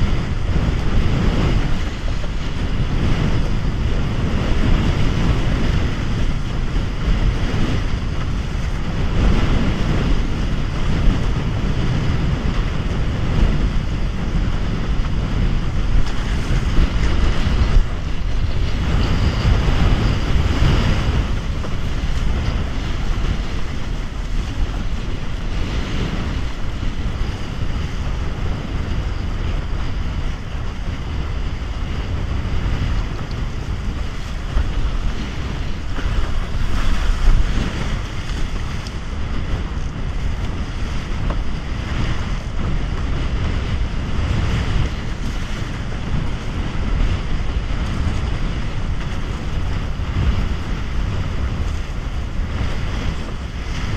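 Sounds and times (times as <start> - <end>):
water rushing along hull: 0.0 - 53.9
wind buffeting microphone: 0.0 - 53.9.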